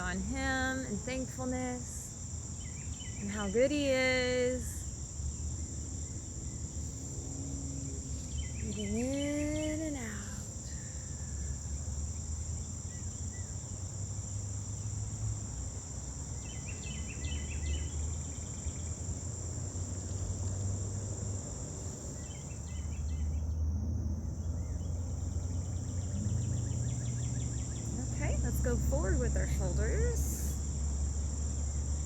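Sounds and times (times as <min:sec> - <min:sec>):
crickets chorus: 0:00.0 - 0:32.0
quick insect chirps: 0:00.0 - 0:32.0.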